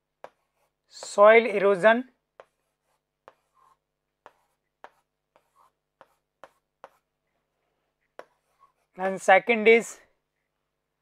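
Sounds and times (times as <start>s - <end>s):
marker writing on whiteboard: 0.0s - 9.7s.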